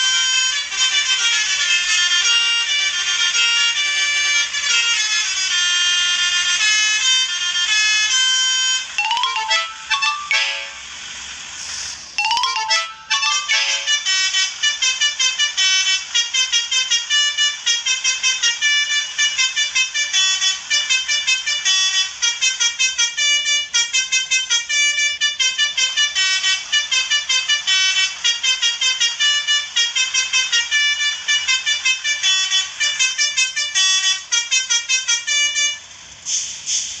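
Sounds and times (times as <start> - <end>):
bus horn playing tune: 0.0 - 36.0.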